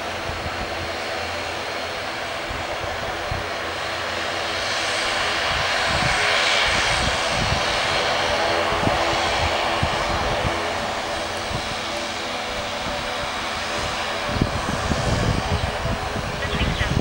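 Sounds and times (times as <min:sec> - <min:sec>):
turboprop engines and propellers: 0:00.0 - 0:17.0.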